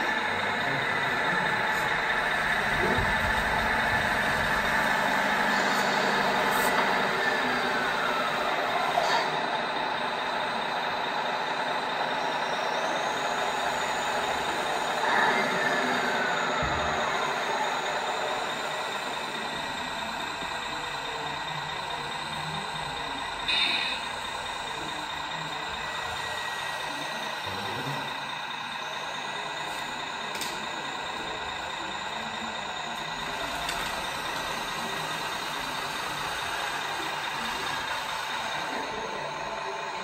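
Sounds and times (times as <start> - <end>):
model vehicle engine drone: 0.0 - 40.0.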